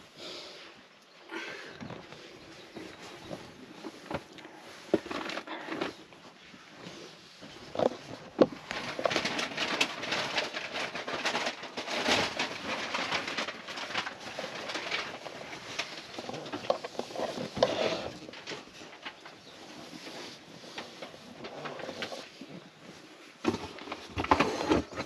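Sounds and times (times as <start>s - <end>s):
fabric rustling: 2.1s - 25.0s.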